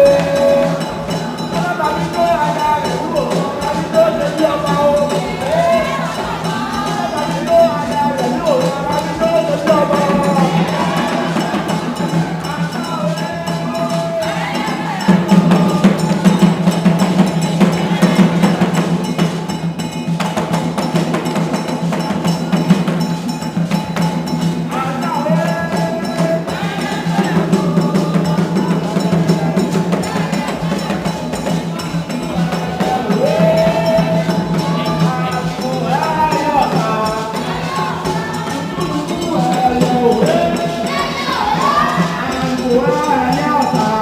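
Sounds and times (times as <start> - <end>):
bell pattern: 0.0 - 44.0
percussion dance music: 0.0 - 44.0.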